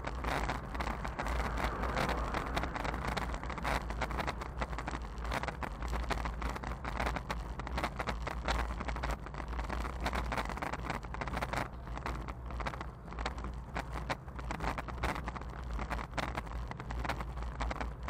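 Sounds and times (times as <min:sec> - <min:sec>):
camera rattling and clicking: 0:00.0 - 0:18.0
wind buffeting microphone: 0:00.0 - 0:18.0.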